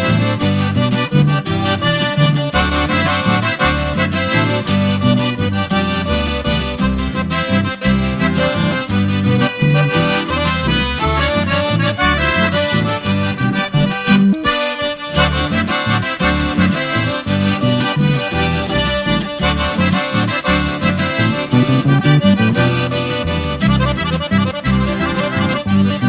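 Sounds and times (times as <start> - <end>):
folk band with accordion melody: 0.0 - 26.0.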